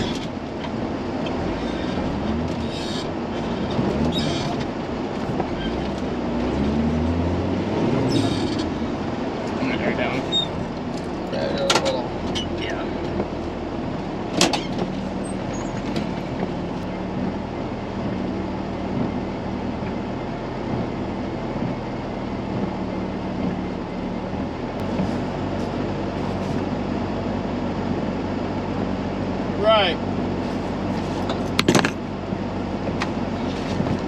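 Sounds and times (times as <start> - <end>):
truck engine running at low revs: 0.0 - 34.0.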